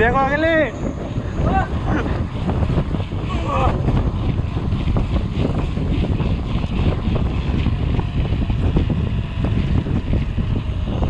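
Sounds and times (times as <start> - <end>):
bike rattling and knocking: 0.0 - 11.0
low rumble: 0.0 - 11.0
wind buffeting microphone: 0.0 - 11.0.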